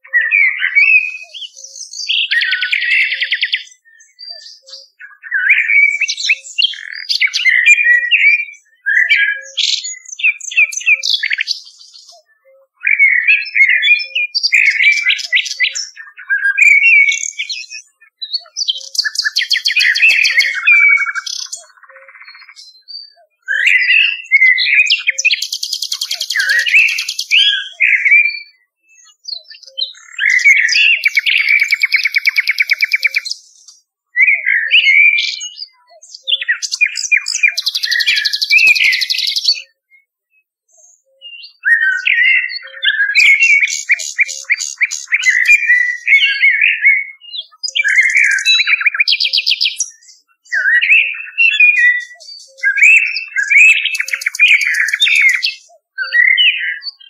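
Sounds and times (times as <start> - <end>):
blackbird song: 0.0 - 57.0
nightingale song: 0.0 - 57.0.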